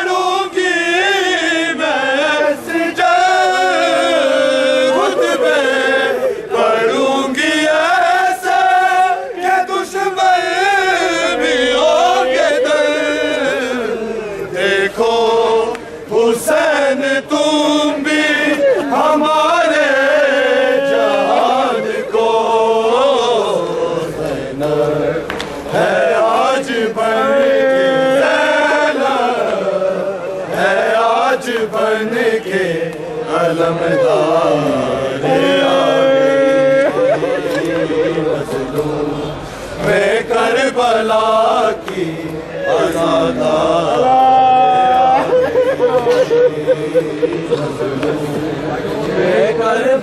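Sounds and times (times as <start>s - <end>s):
men chanting in unison: 0.0s - 50.0s.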